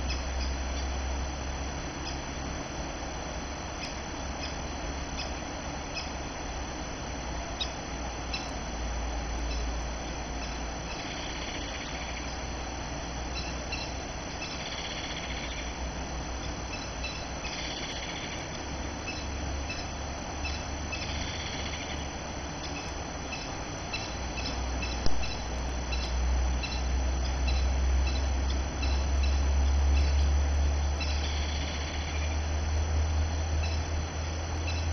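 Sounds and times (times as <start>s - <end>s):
low outdoor rumble: 0.0s - 34.9s.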